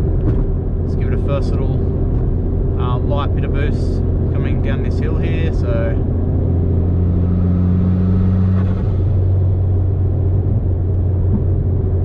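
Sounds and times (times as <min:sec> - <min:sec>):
car engine low drone: 0:00.0 - 0:12.0.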